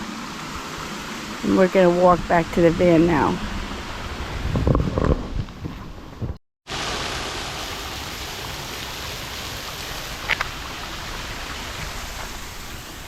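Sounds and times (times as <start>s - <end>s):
water running over rocks: 0.0s - 5.6s, 6.7s - 13.0s.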